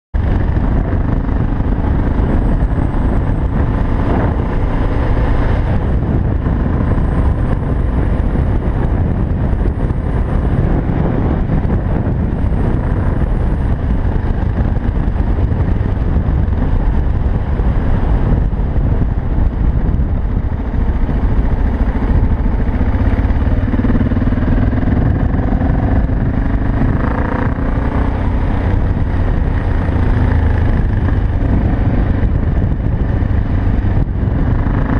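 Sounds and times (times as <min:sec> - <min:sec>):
heavy low rumble: 0:00.2 - 0:34.9
motorcycle engine running: 0:00.2 - 0:34.9.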